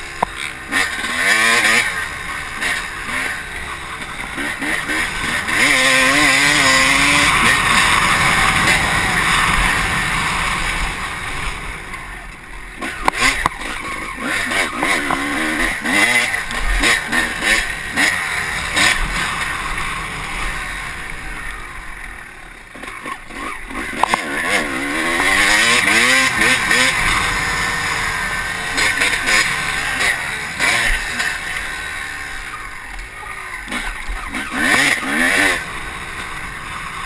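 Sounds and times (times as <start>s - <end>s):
motocross bike engine revving: 0.0s - 37.0s.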